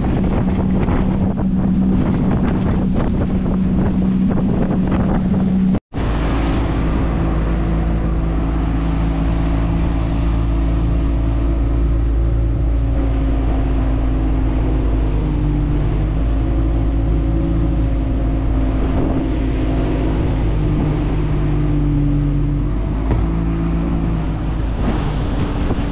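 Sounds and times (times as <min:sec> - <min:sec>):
boat engine droning: 0:00.0 - 0:25.9.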